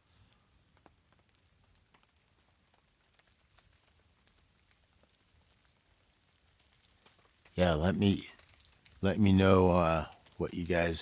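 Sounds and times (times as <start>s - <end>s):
low rain hiss: 0.0s - 11.0s
raindrops ticking: 0.1s - 11.0s.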